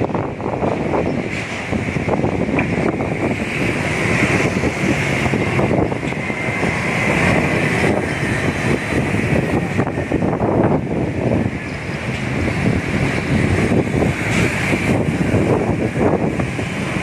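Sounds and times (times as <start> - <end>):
street traffic passing: 0.0 - 17.0
wind buffeting microphone: 0.0 - 17.0.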